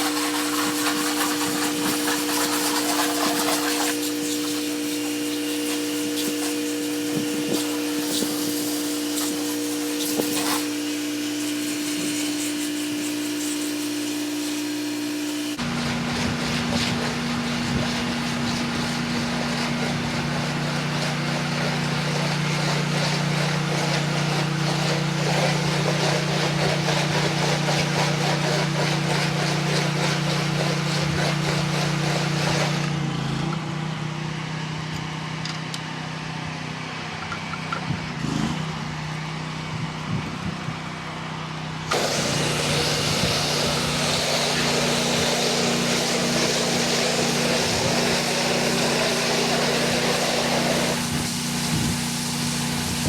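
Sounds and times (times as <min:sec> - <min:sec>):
hiss of water spray: 0:00.0 - 0:32.9, 0:41.9 - 0:53.0
pressure washer engine hum: 0:00.0 - 0:53.0.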